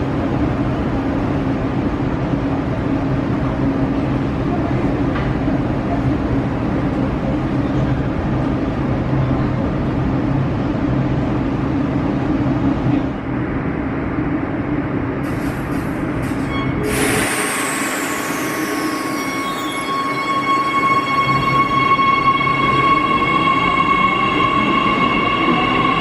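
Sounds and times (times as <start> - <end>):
low hum of train: 0.0 - 26.0.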